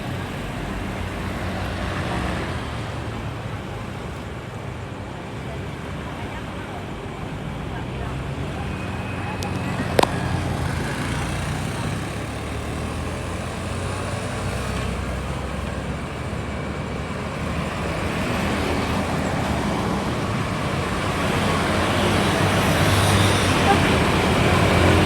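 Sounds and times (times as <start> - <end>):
bus engine running: 0.0 - 25.0
road and traffic noise: 0.0 - 25.0.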